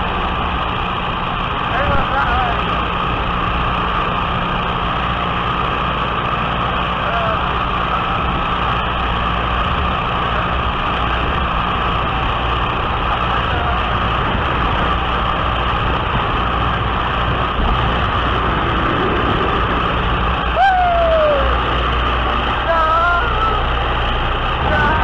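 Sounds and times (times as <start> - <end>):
wind rushing over microphone: 0.0 - 22.8, 23.4 - 25.0
plane engine and propeller: 0.0 - 25.0.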